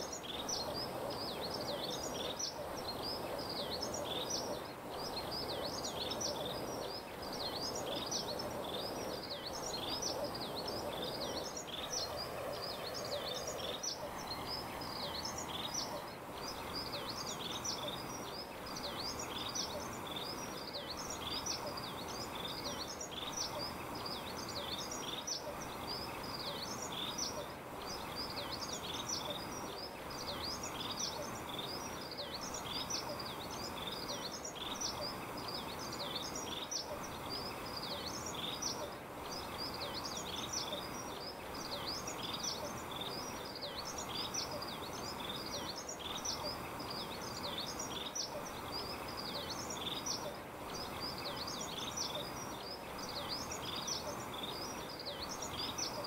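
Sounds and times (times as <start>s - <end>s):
small birds chirping: 0.0s - 56.0s
steady background hiss: 0.0s - 56.0s.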